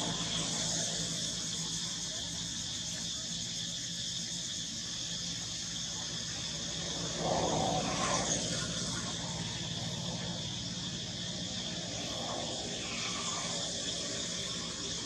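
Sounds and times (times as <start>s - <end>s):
high-pitched insect buzz: 0.0s - 15.0s.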